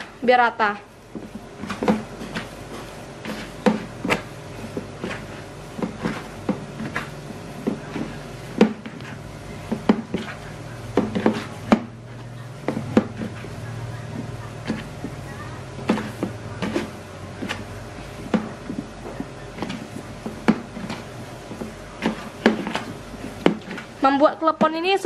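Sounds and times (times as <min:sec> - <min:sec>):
hands kneading dough in bowl: 0:00.0 - 0:25.0.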